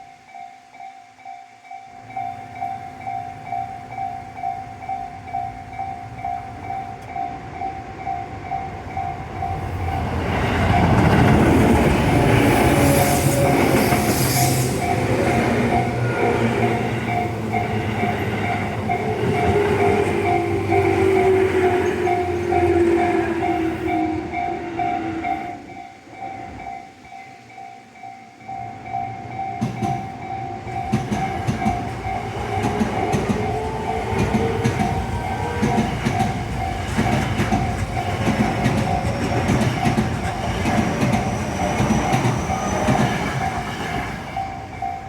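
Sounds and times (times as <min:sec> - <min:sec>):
level crossing warning bell: 0:00.0 - 0:45.0
train wheels on track: 0:00.0 - 0:45.0
train whine dropping in pitch: 0:02.1 - 0:45.0.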